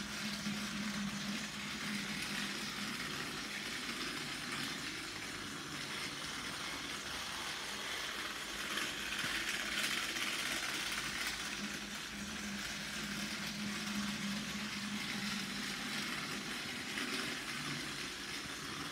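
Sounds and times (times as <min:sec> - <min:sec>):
toy train motor whirring: 0:00.0 - 0:18.9.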